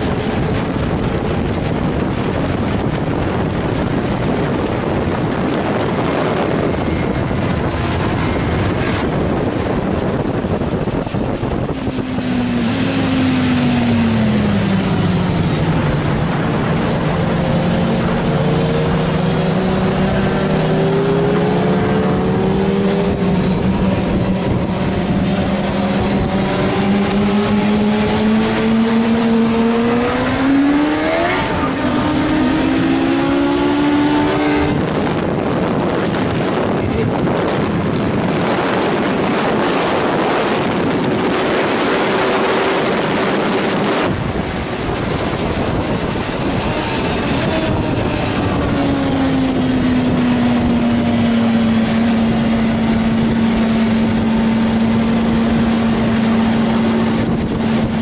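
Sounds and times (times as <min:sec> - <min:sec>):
motorcycle engine accelerating: 0:00.0 - 0:58.0
rush of noise at speed: 0:00.0 - 0:58.0.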